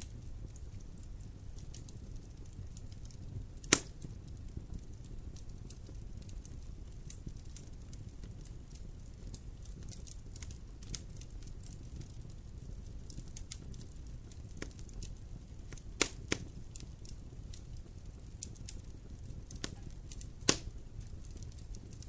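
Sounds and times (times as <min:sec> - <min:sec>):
low flame rumble: 0:00.0 - 0:22.0
wood fire crackling and popping: 0:00.0 - 0:22.0.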